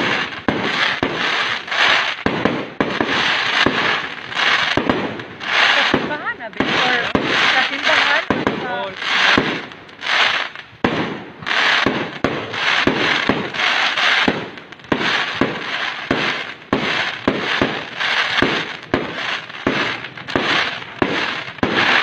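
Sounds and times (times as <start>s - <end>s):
fireworks bangs: 0.0s - 22.0s
fireworks crackling hiss: 0.0s - 22.0s.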